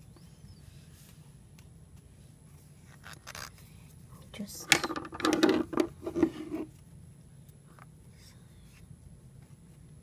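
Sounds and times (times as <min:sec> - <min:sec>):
rubbing and rustling handling noise: 0:00.0 - 0:08.0.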